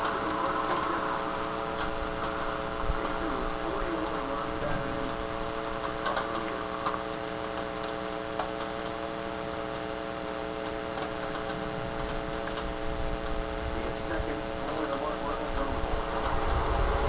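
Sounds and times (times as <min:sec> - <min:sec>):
heavy rain: 0:00.0 - 0:17.0
steady hum: 0:00.0 - 0:17.0.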